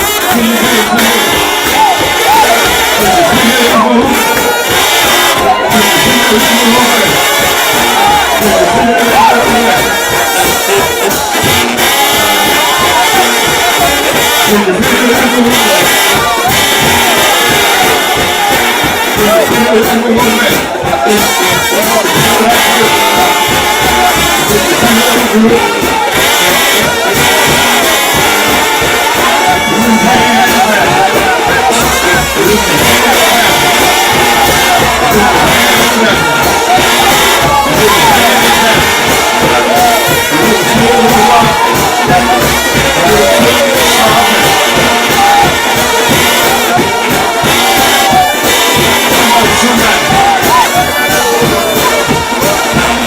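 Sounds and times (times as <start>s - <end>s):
crowd singing along: 0.0s - 53.0s
percussion: 0.0s - 53.0s
trombone band playing loudly: 0.0s - 53.0s.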